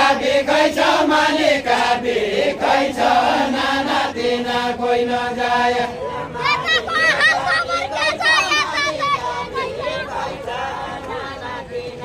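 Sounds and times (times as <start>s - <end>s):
group singing unaccompanied folk song: 0.0s - 12.0s.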